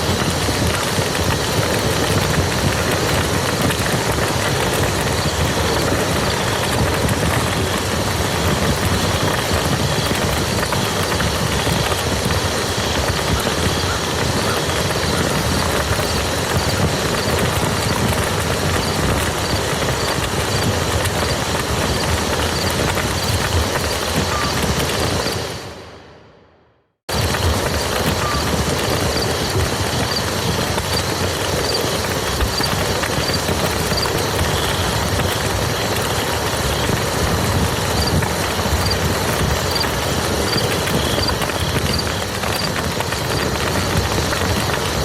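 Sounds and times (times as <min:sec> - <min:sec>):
rain on muddy ground: 0:00.0 - 0:25.6, 0:27.1 - 0:45.0.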